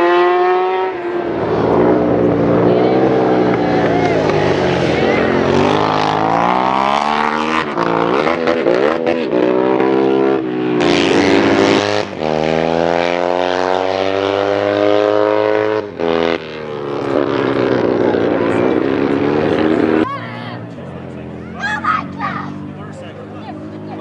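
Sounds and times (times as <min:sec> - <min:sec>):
motorcycle engines revving hard: 0:00.0 - 0:24.0.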